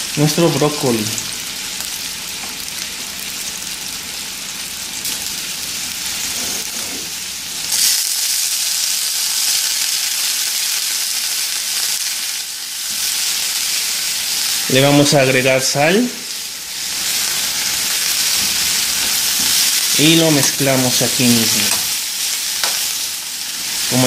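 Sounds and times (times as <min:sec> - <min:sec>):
vegetables sizzling in butter: 0:00.0 - 0:24.0.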